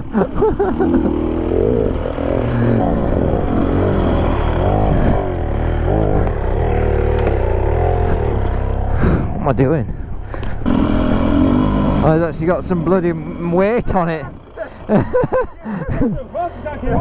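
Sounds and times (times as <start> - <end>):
dirt bike engine revving: 0.0 - 9.5, 10.2 - 15.6.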